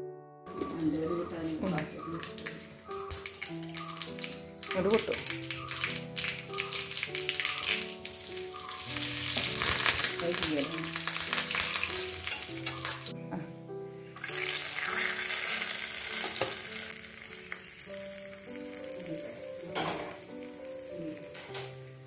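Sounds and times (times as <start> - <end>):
background music: 0.0 - 22.0
seeds sizzling in hot oil: 0.6 - 13.1, 14.2 - 22.0.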